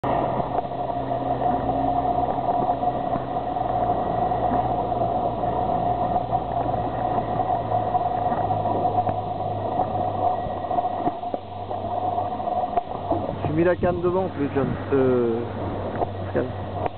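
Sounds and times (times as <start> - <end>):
boat engine idling: 0.0 - 16.9.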